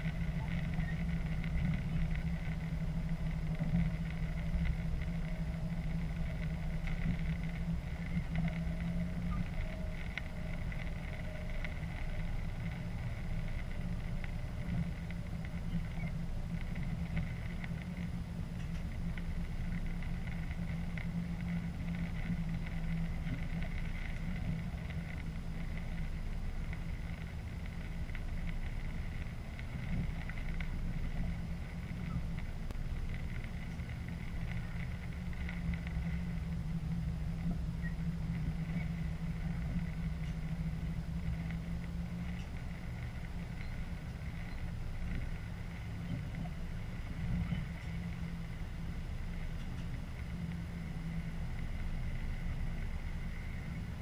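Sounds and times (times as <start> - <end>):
faint steady whine: 0.0 - 54.0
train running hum: 0.0 - 54.0.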